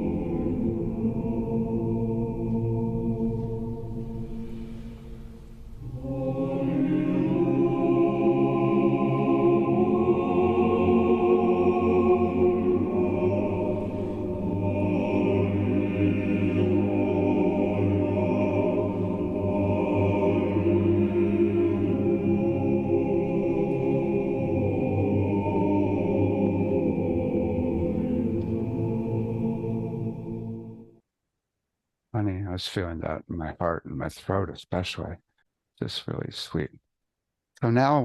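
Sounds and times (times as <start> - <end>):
choir singing long chords: 0.0 - 31.0.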